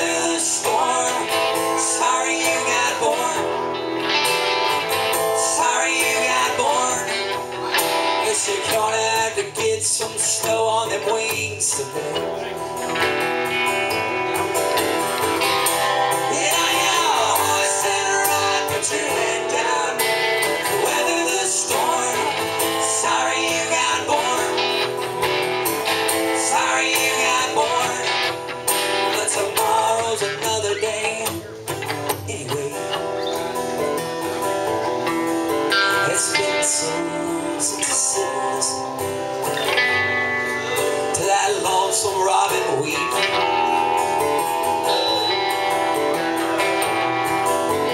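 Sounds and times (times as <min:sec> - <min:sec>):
acoustic guitar strumming: 0:00.0 - 0:47.9
electric guitar playing lines: 0:00.0 - 0:47.9.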